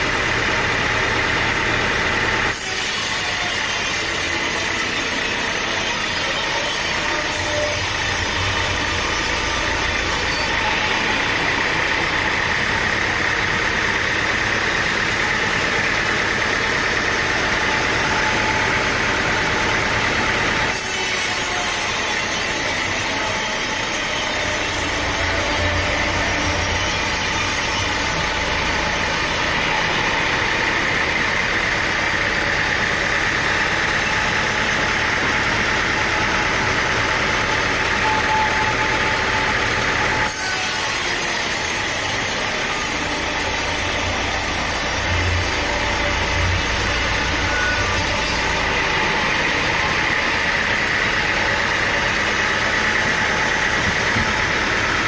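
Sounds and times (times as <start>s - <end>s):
saw cutting wood: 0.0s - 55.0s
sawmill engine running: 0.0s - 55.0s.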